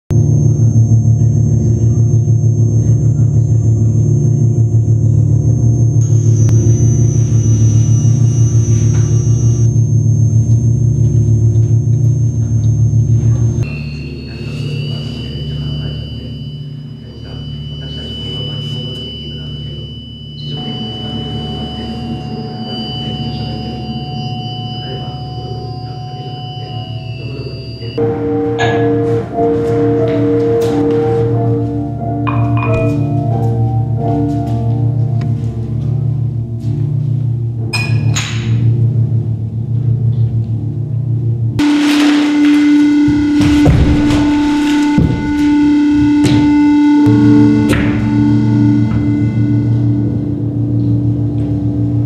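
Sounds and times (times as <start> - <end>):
dense low hum: 0.1 - 52.0
high sustained tones: 0.1 - 52.0
low electronic drone: 0.1 - 52.0.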